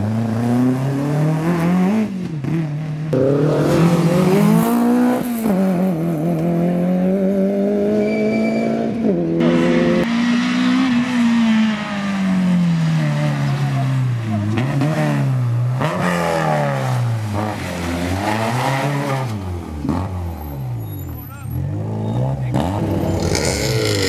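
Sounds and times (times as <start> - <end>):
rally car engines accelerating: 0.0 - 24.0.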